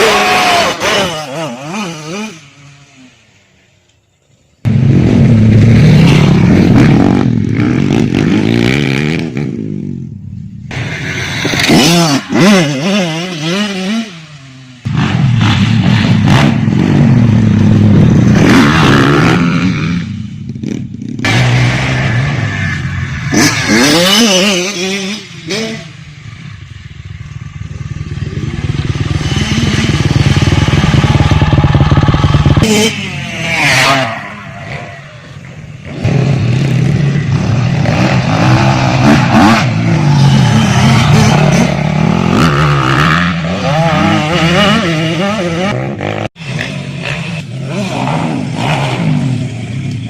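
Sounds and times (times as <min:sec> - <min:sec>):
motorcycle engine revving: 0:00.0 - 0:03.4, 0:04.6 - 0:50.0.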